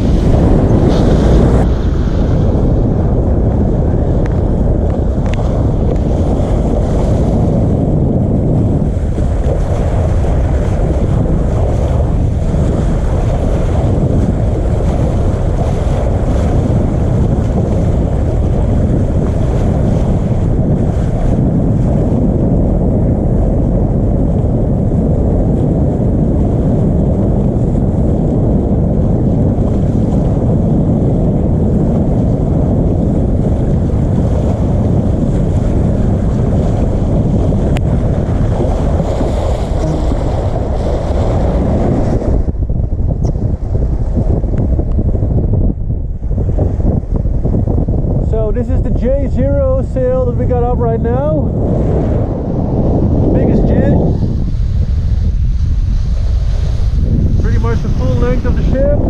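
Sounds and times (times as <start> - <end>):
sea water rushing along hull: 0.0 - 59.0
wind buffeting microphone: 0.0 - 59.0.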